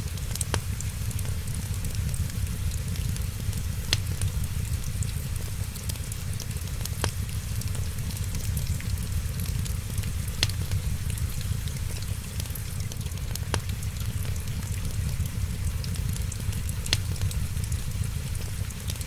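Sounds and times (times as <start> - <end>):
rain hiss: 0.0 - 19.0
wood fire crackling: 0.0 - 19.0.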